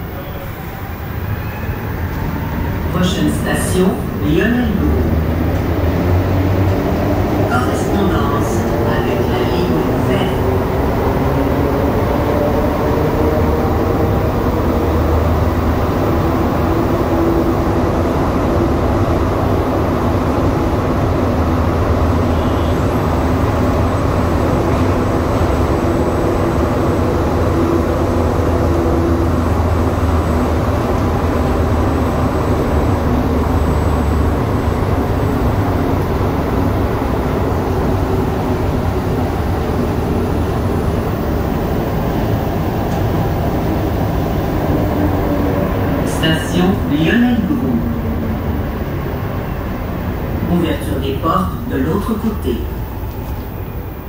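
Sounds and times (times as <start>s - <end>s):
subway train rumbling in tunnel: 0.0s - 54.0s.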